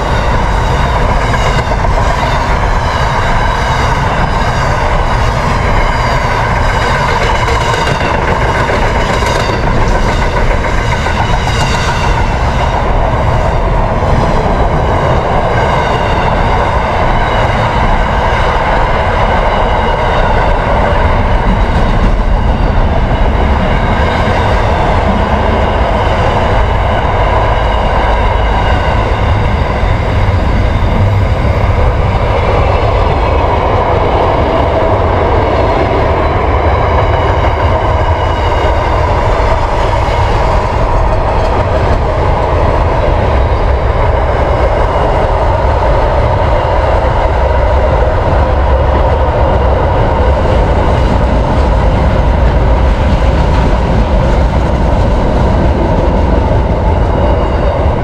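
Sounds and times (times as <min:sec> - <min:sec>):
train rumbling across bridge: 0:00.0 - 0:58.0.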